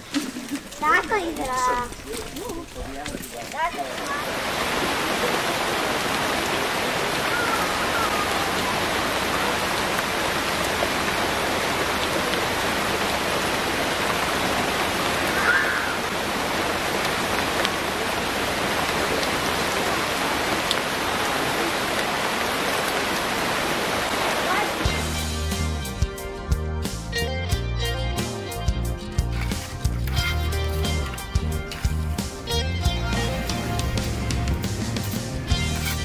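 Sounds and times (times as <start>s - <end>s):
heavy rain on trees and floor: 0.0s - 36.0s.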